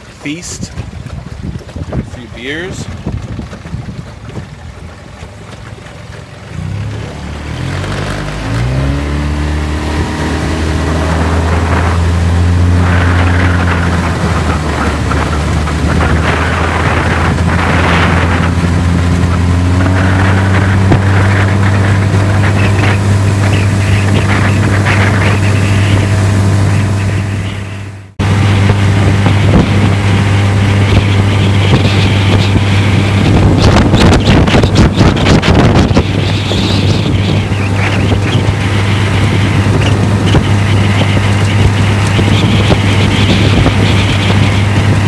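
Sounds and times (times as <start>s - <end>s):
outboard motor revving: 0.0s - 45.0s.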